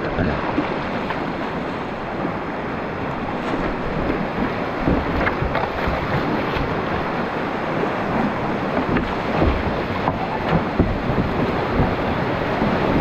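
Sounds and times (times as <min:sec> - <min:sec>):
creek whitewater rushing: 0:00.0 - 0:13.0.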